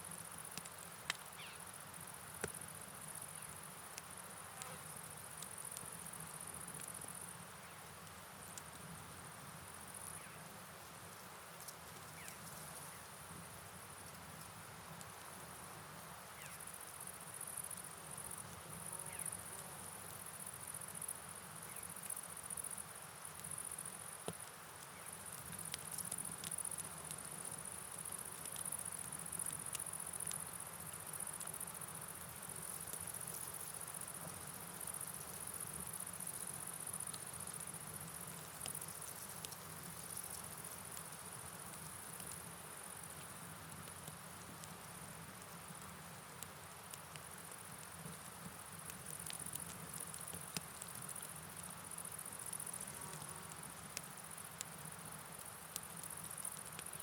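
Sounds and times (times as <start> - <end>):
crickets chirping: 0.0 - 7.9, 15.2 - 57.0
faint ticks: 0.4 - 9.0, 16.4 - 57.0.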